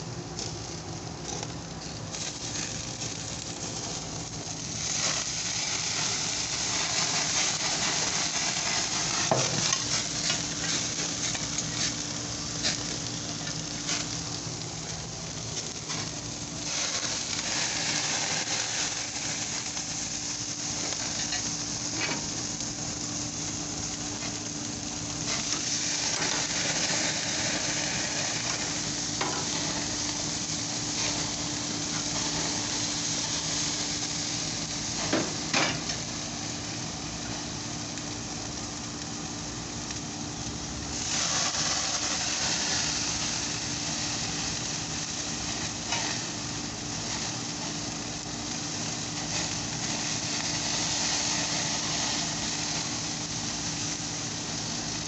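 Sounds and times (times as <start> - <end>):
ribs sizzling on a grill: 0.0 - 55.0.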